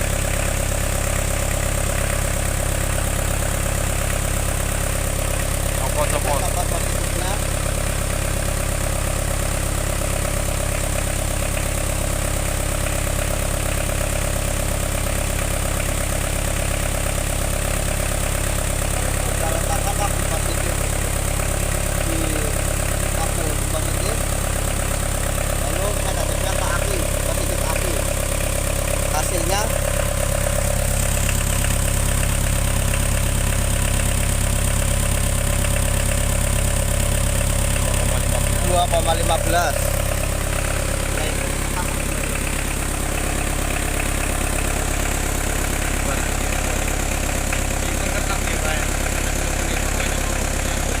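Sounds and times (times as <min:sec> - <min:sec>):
diesel engine running steadily: 0:00.0 - 0:51.0.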